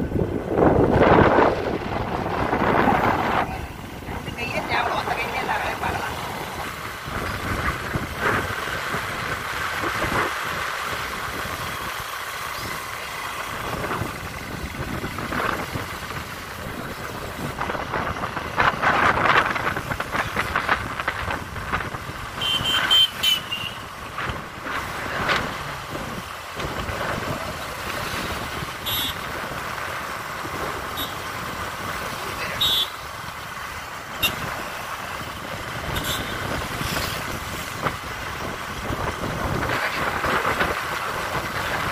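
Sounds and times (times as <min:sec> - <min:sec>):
vehicle engine and road noise: 0:00.0 - 0:41.9.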